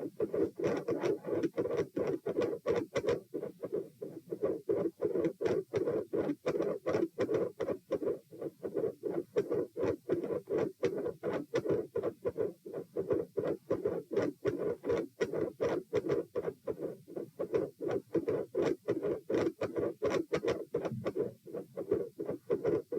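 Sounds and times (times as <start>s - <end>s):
rapid heartbeat thuds: 0.0s - 22.9s.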